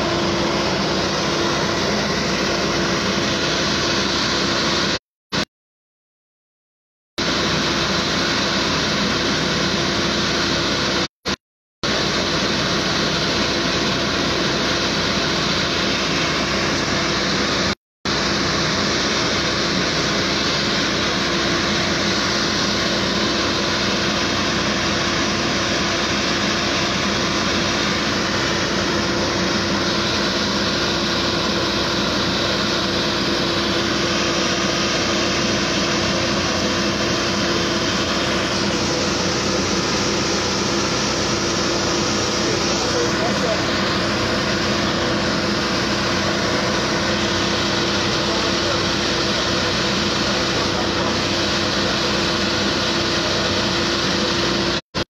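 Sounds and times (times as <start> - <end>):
fire engine pump running: 0.0 - 5.5, 7.2 - 55.0.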